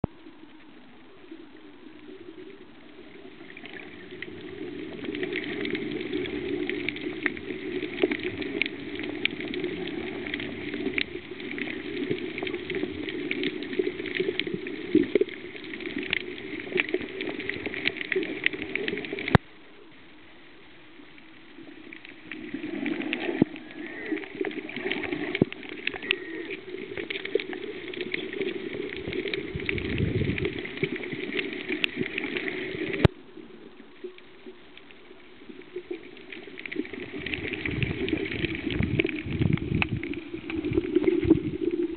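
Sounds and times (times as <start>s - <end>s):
muffled water noise: 0.0s - 41.9s
small crackling clicks: 0.0s - 41.9s
faint hiss: 0.1s - 41.9s.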